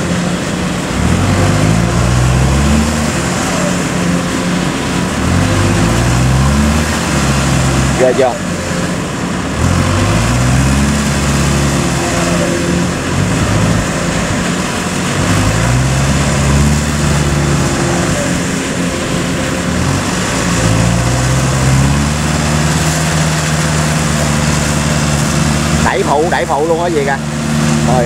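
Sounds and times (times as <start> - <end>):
diesel engines under heavy load: 0.0 - 28.0.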